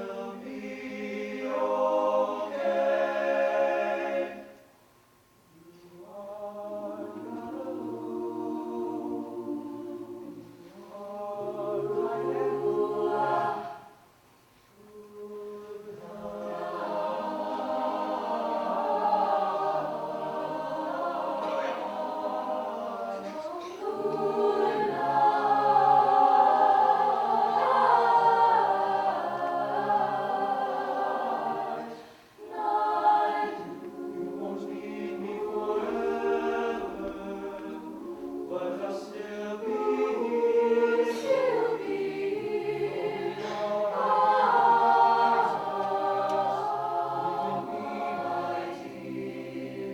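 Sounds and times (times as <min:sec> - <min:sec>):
vocal group singing a cappella: 0:00.0 - 0:04.8, 0:05.5 - 0:14.1, 0:14.8 - 0:49.9.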